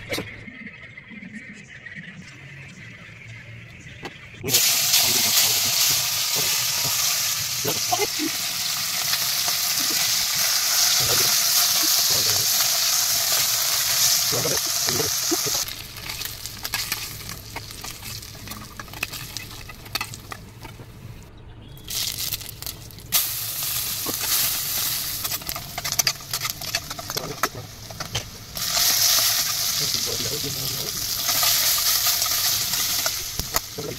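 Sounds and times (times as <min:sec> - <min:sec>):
food frying in hot oil: 0:04.5 - 0:20.4, 0:21.9 - 0:33.9.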